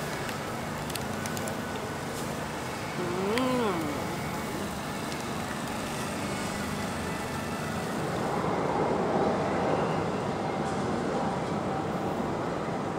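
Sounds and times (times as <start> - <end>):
road traffic: 0.0 - 12.9.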